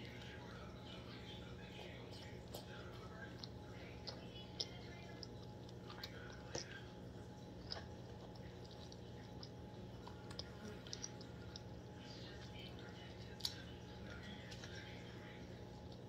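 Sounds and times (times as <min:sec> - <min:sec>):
steady low hum: 0:00.0 - 0:16.0
person chewing snacks: 0:02.0 - 0:15.1.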